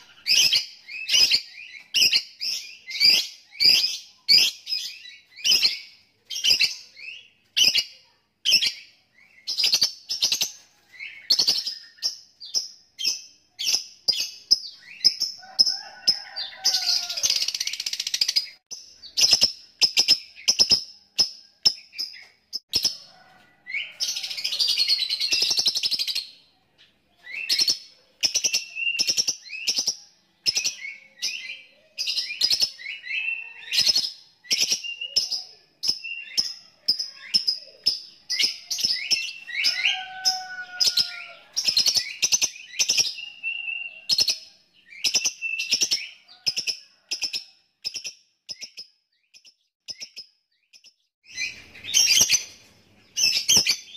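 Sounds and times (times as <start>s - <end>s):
lovebird chirping: 0.0s - 23.0s, 23.8s - 53.9s.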